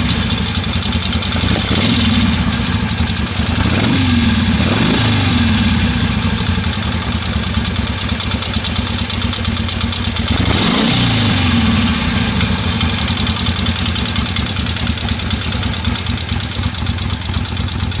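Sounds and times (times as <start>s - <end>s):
engine knocking: 0.0s - 18.0s
motorcycle engine idling and revving: 0.0s - 18.0s.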